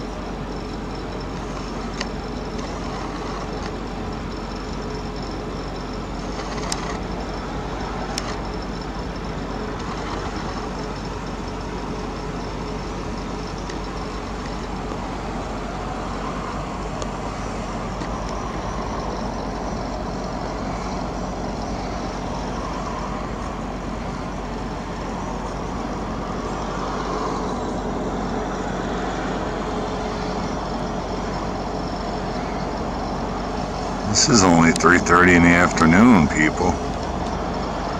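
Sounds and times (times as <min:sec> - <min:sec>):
road traffic: 0:00.0 - 0:37.9.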